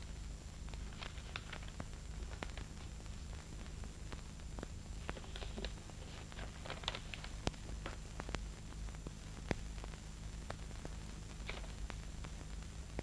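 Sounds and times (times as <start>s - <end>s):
low hum and hiss: 0.0s - 13.0s
sharp clicks and crackles: 0.6s - 13.0s.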